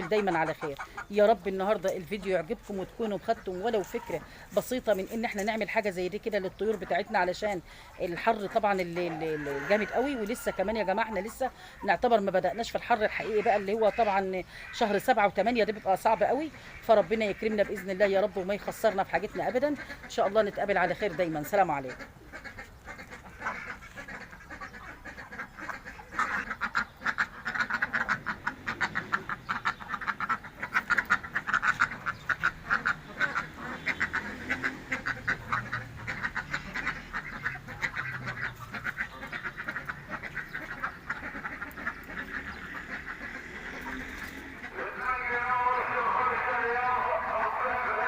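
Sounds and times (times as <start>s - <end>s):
ducks quacking: 0.0s - 48.0s.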